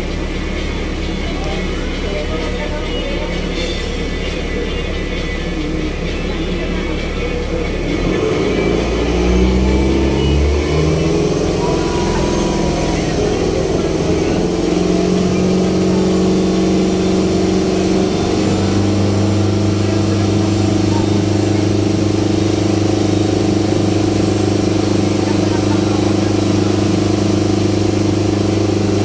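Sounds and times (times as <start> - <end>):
ferry engine droning: 0.0 - 29.0.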